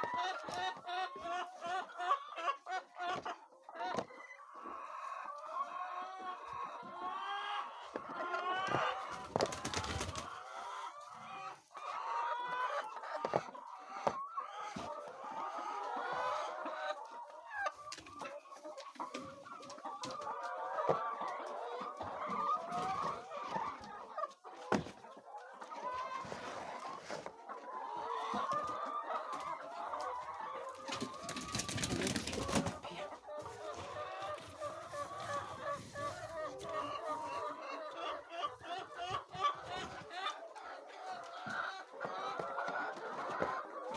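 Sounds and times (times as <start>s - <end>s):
hens clucking: 0.0s - 43.9s.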